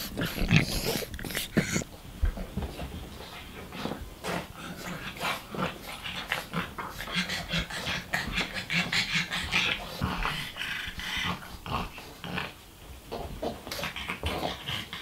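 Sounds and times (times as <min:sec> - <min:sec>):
dogs growling and grunting: 0:00.0 - 0:15.0.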